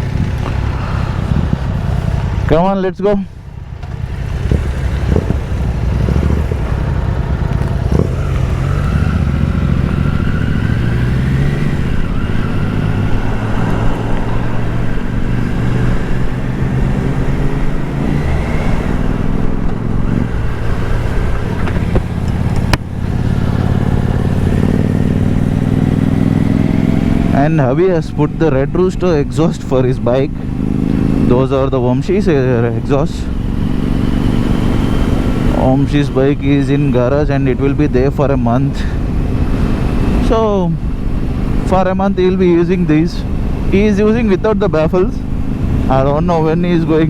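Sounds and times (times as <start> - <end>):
motorcycle engine riding away: 3.5 - 47.0.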